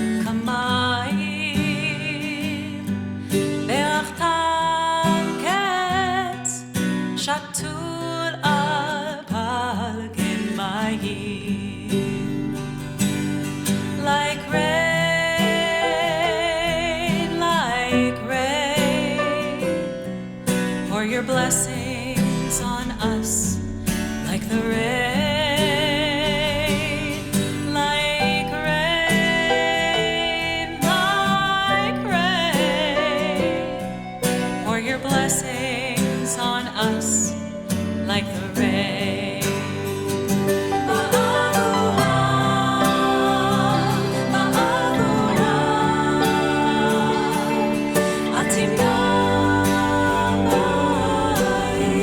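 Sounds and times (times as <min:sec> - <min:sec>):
woman singing with vibrato: 0:00.0 - 0:03.0, 0:03.6 - 0:12.6, 0:13.8 - 0:19.8, 0:20.9 - 0:52.0
plucked acoustic guitar: 0:00.0 - 0:52.0.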